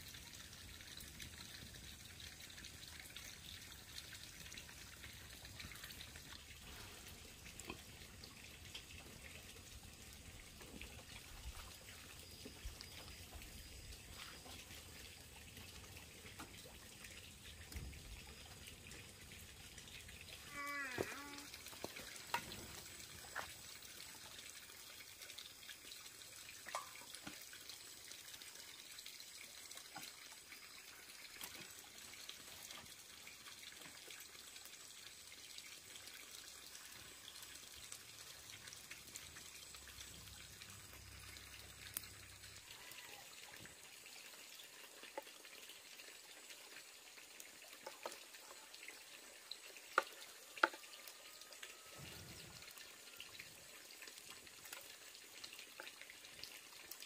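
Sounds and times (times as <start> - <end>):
faint trickling water: 0.0 - 57.0.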